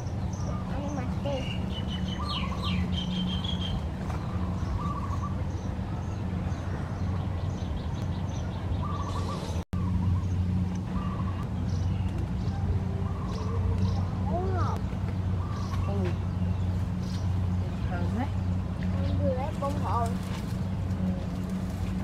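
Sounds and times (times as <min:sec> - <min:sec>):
small birds chirping: 0:00.0 - 0:21.8
low hum: 0:00.0 - 0:22.0.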